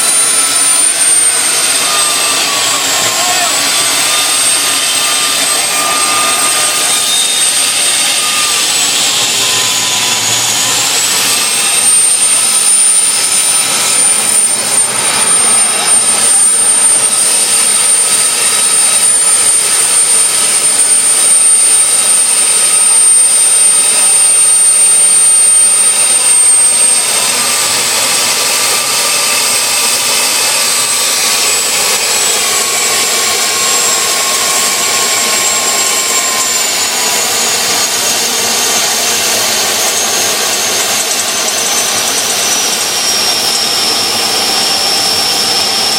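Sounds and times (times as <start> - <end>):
jet engine whining roar: 0.0 - 45.9.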